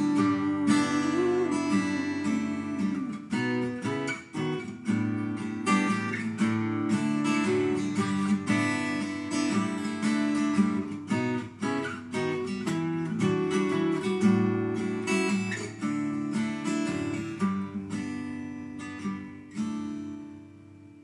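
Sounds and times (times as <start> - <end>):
acoustic guitar picking and strumming: 0.0 - 21.0.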